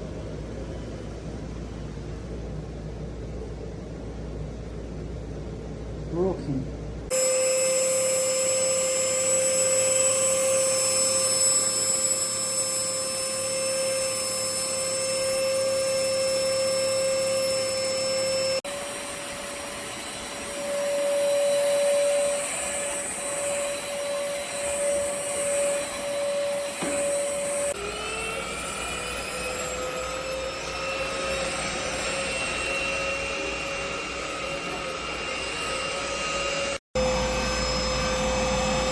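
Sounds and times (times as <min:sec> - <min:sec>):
vacuum cleaner motor whine: 0:07.1 - 0:38.9.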